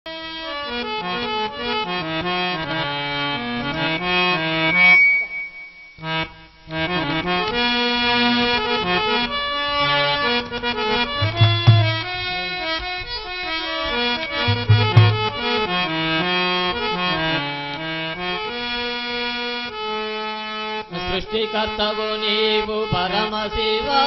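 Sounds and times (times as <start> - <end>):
harmonium playing: 0.1 - 5.1, 6.0 - 24.0.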